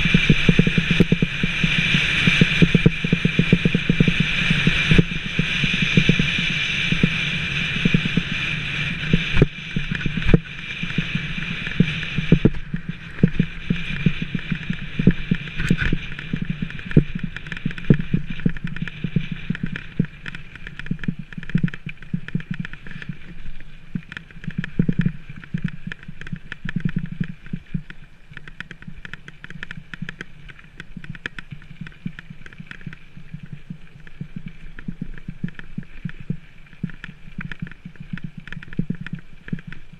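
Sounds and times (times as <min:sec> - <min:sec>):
bike rattling over bumps: 0:00.0 - 0:39.9
bike tyres on gravel: 0:00.0 - 0:39.9.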